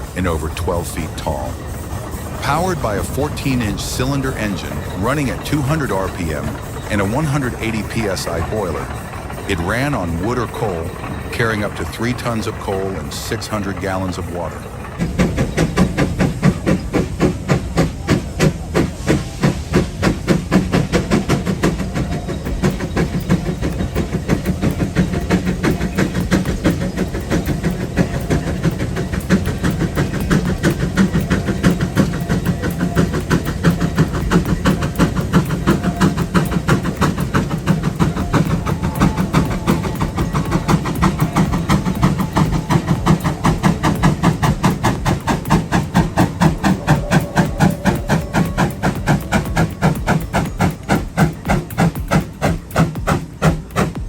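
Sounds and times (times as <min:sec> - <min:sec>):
steam engine exhaust chuffing: 0:00.0 - 0:54.0
steam hissing: 0:00.0 - 0:54.0.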